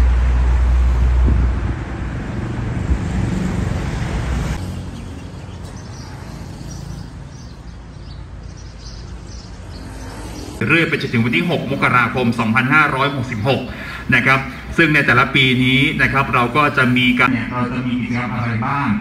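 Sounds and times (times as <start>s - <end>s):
wind buffeting microphone: 0.0s - 16.6s
road traffic: 0.0s - 19.0s.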